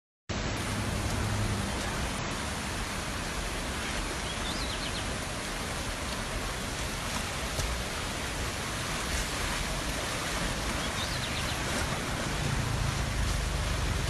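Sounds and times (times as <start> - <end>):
floodwater rushing: 0.3 - 14.0.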